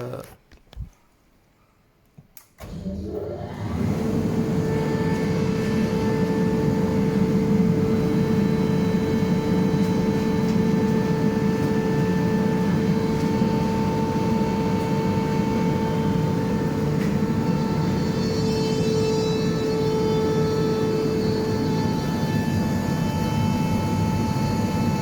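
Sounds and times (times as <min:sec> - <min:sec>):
air compressor humming and whining: 0:02.6 - 0:25.0.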